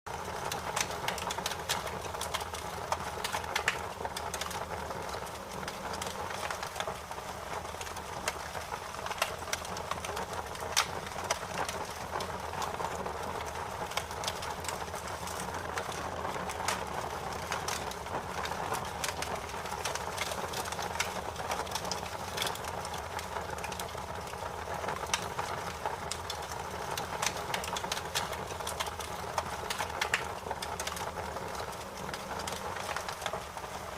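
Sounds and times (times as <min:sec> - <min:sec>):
bonfire crackling: 0:00.1 - 0:33.9.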